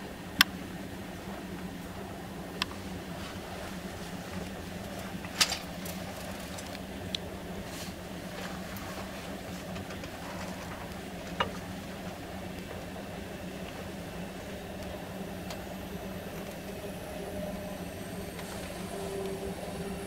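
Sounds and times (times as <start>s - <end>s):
train cabin hum and rumble: 0.0s - 20.0s.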